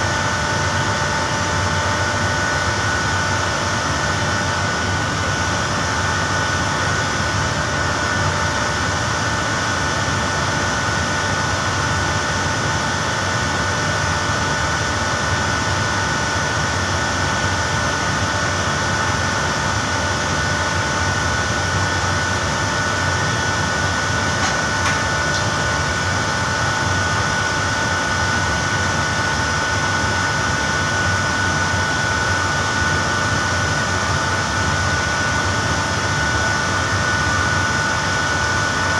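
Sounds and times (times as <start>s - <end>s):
air conditioning machinery hum: 0.0s - 38.9s.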